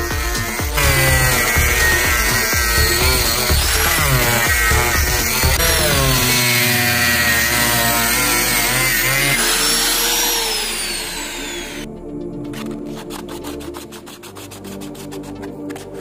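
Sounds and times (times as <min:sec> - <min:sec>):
angle grinder cutting plastic: 0:00.0 - 0:11.9, 0:12.5 - 0:16.0.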